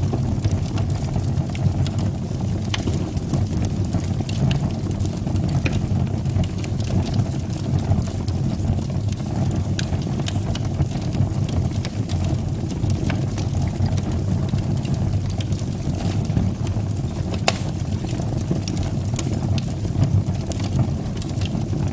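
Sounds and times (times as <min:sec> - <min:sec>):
fire crackling and popping: 0:00.0 - 0:21.9
fire rumbling: 0:00.0 - 0:21.9.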